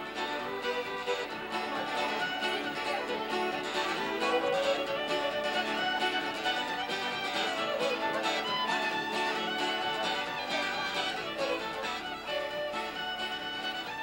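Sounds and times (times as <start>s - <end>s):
instrumental fiddle music: 0.0s - 14.0s.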